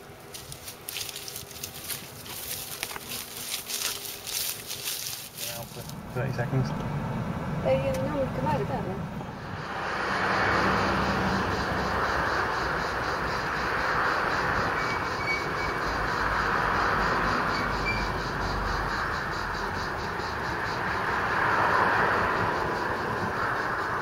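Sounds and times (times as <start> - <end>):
cicadas buzzing in chorus: 0.0 - 24.0.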